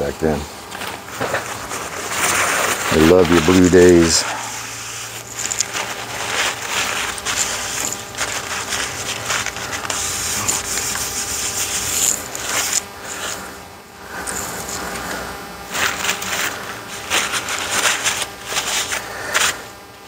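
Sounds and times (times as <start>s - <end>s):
rubbing and scraping at workbench: 0.7s - 19.7s.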